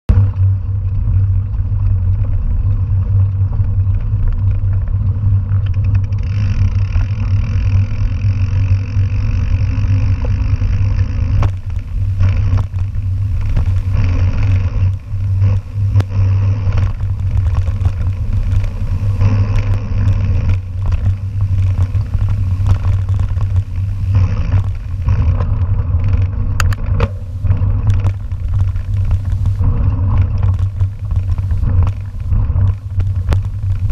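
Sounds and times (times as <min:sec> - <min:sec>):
bike rattling and knocking: 0:00.1 - 0:33.9
bike rolling on gravel: 0:00.1 - 0:33.9.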